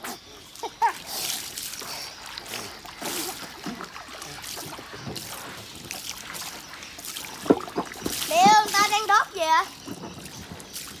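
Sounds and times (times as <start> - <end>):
water splashing in pool: 0.0 - 11.0.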